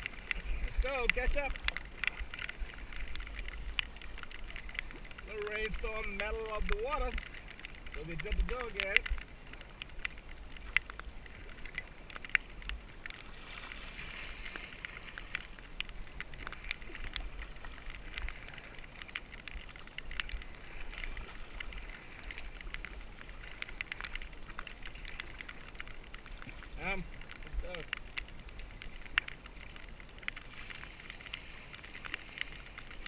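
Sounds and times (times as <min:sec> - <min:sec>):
paddle splashing water: 0:00.0 - 0:33.0
wind rumble on microphone: 0:00.0 - 0:33.0.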